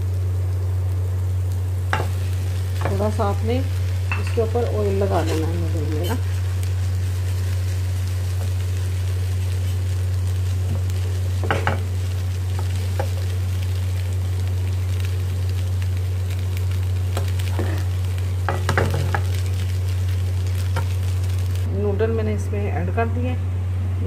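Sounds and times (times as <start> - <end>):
food sizzling in frying pan: 0.0 - 22.2
steady low hum: 0.0 - 24.0.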